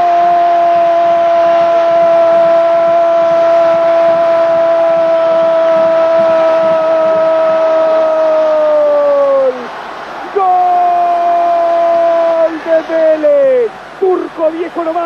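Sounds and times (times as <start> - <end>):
crowd noise: 0.0 - 15.0.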